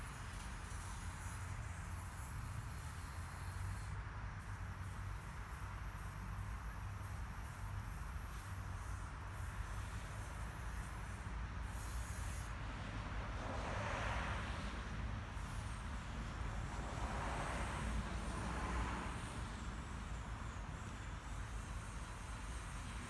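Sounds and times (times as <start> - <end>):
steady low traffic rumble: 0.0 - 23.0
tyre hiss from passing cars: 0.0 - 23.0.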